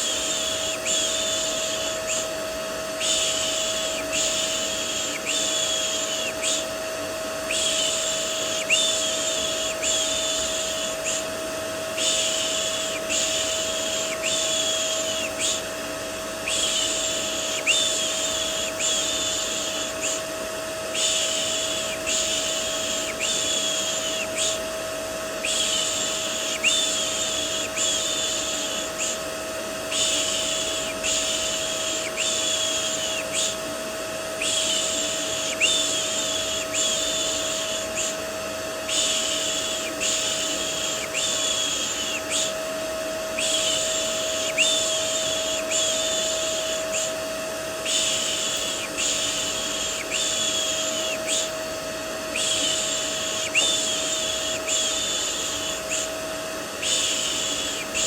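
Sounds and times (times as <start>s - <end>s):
vacuum cleaner drone: 0.0s - 58.0s.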